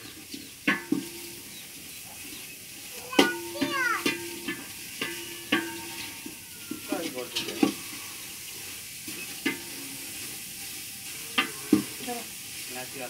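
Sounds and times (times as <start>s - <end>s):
meat sizzling: 0.0s - 13.0s
metal spoon scraping a pot: 0.2s - 1.6s, 3.5s - 12.7s.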